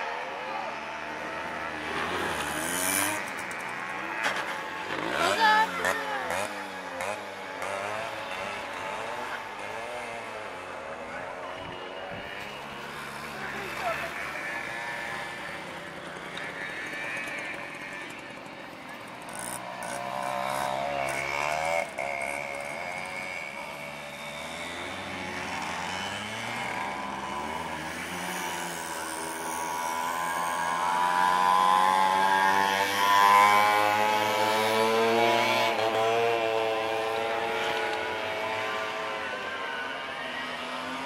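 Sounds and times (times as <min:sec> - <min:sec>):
motorcycle engines revving past: 0:00.0 - 0:41.0.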